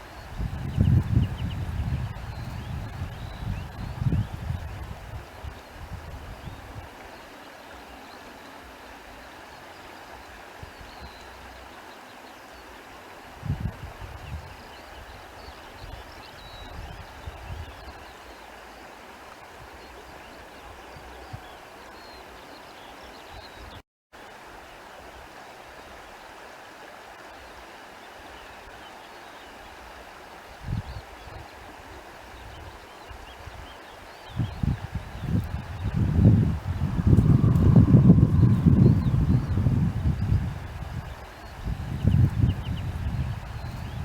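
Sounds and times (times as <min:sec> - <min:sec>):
rushing stream: 0:00.0 - 0:44.0
steady outdoor hiss: 0:00.0 - 0:44.0.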